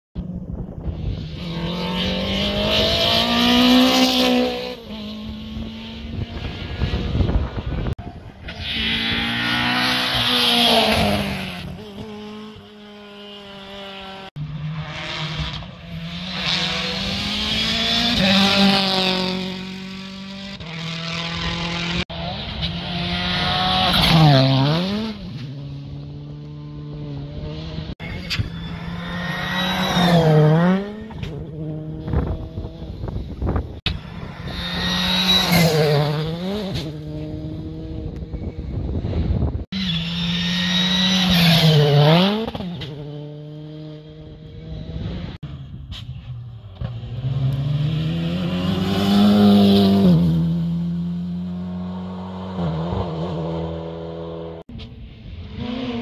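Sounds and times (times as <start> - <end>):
rally car engines revving: 0.2 - 56.0.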